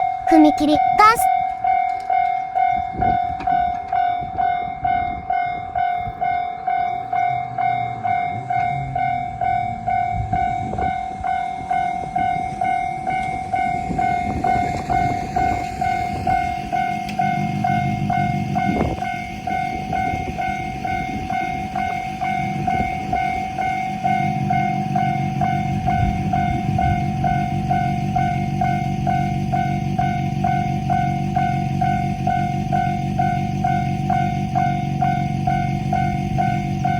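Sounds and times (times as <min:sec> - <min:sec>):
diesel railcar rumble: 0:04.2 - 0:36.9.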